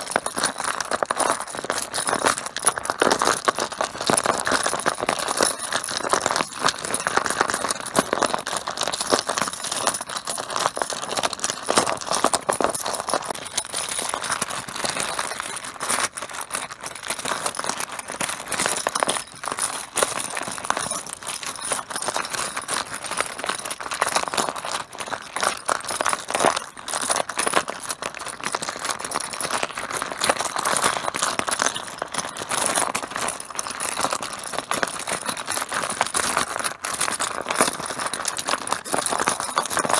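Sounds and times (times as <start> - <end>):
mahjong tiles clattering: 0.0 - 39.9.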